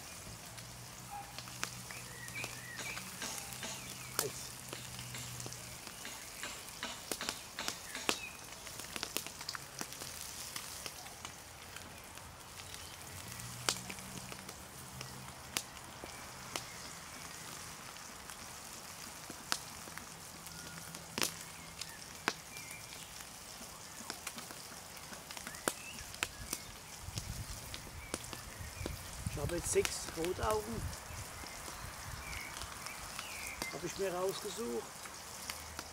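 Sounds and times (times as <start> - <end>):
fish sizzling with pops: 0.0 - 35.9.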